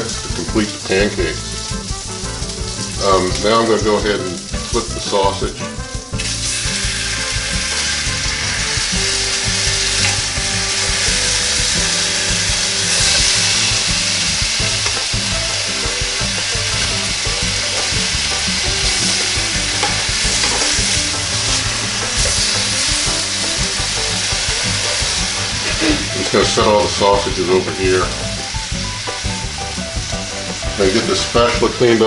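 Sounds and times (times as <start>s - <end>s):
sausages sizzling: 0.0s - 32.0s.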